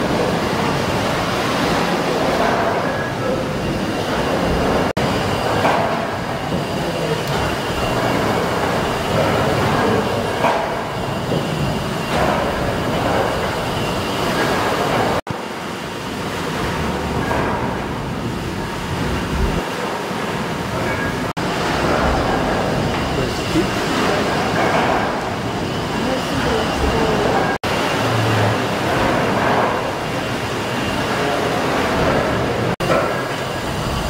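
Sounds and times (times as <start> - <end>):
steam engine clatter and rumble: 0.0 - 34.0.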